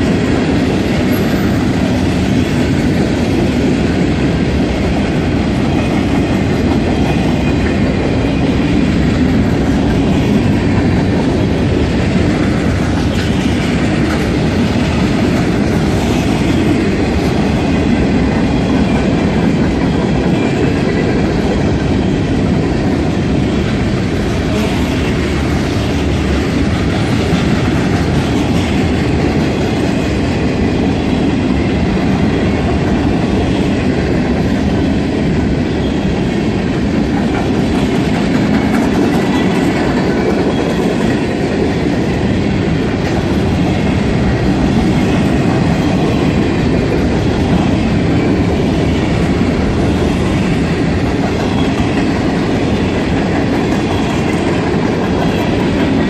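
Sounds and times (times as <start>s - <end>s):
train cars rolling past: 0.0s - 56.0s
wheels on rails: 0.0s - 56.0s.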